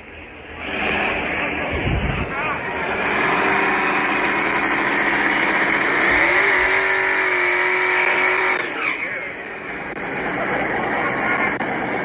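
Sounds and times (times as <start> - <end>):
drag car engine revving high: 0.4 - 12.0.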